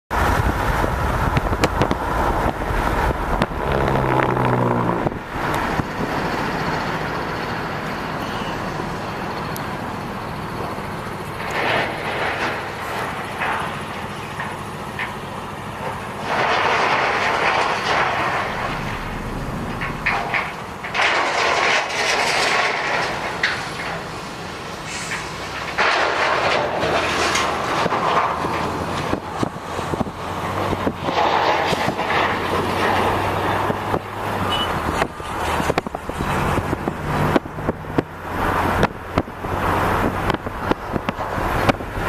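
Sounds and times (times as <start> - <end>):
pile driver machinery din: 0.1 - 42.0.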